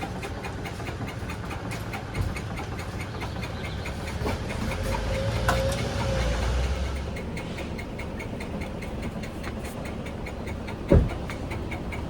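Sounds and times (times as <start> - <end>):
car engine idling: 0.0 - 12.0
light regular ticking: 0.0 - 12.0.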